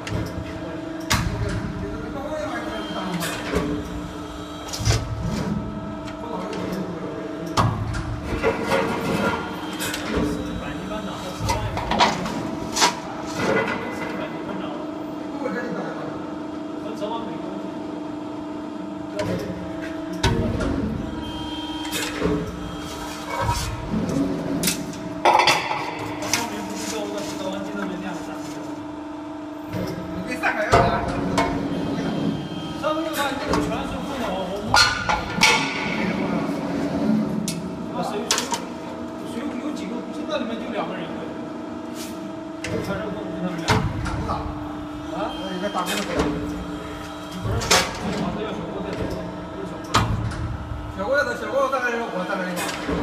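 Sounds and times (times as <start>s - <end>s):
machine hum: 0.0s - 53.0s.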